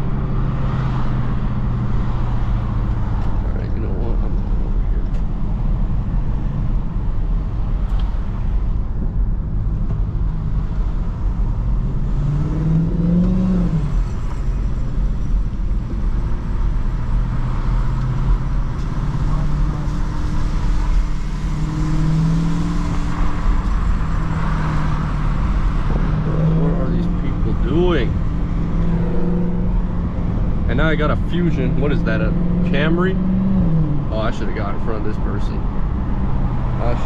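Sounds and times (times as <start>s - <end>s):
car engine running: 0.0s - 37.0s
road noise: 0.0s - 37.0s.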